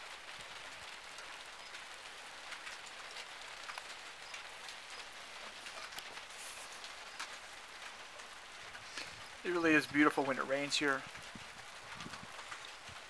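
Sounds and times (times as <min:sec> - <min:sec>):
rain drops on wooden deck: 0:00.0 - 0:13.0.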